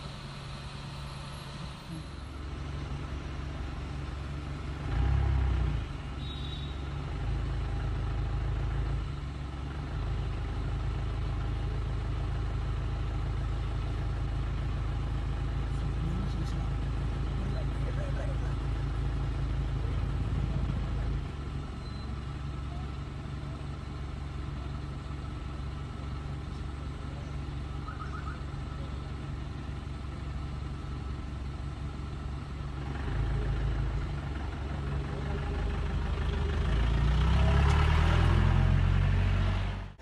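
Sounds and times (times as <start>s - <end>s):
vehicle engine idling: 0.0s - 40.0s.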